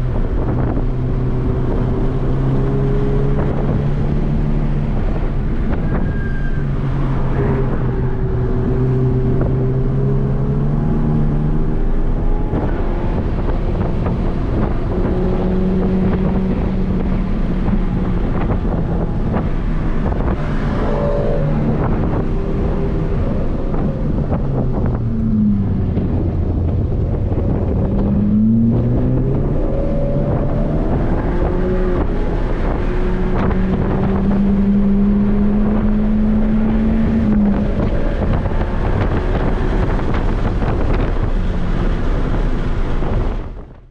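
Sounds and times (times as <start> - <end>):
car engine under hard driving: 0.0 - 43.9
wind noise: 0.0 - 43.9.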